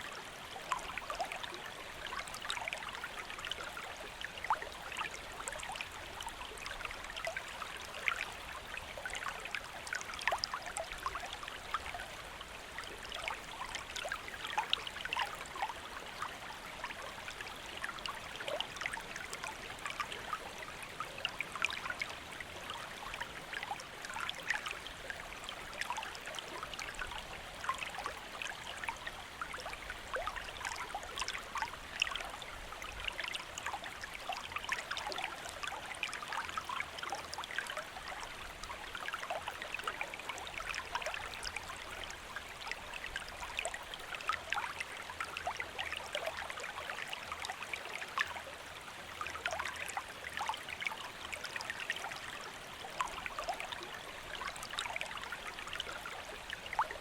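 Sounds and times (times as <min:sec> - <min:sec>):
stream babbling and trickling: 0:00.0 - 0:57.0.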